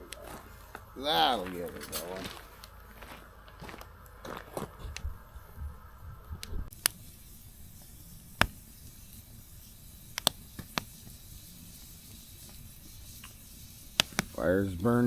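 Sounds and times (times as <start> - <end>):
campfire burning: 0.0 - 15.0
wood popping in fire: 0.0 - 15.0.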